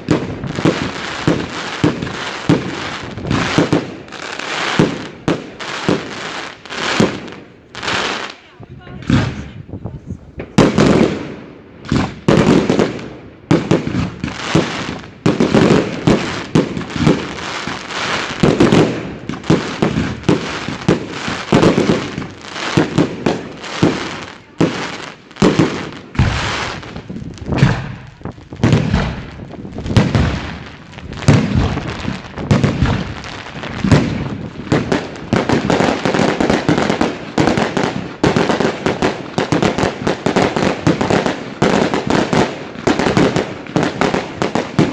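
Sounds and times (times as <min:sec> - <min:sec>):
fireworks bangs with ringing tails: 0:00.0 - 0:09.6, 0:10.3 - 0:44.9.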